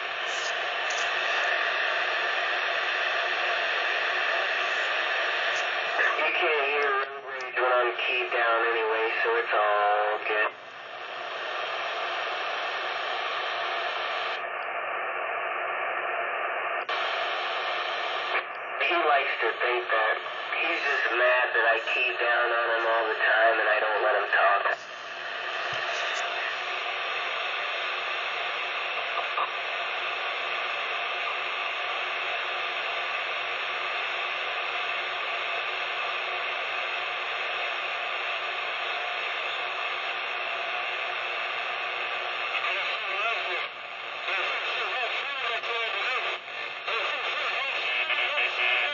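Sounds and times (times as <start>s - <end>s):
radio static hiss: 0.0s - 48.9s.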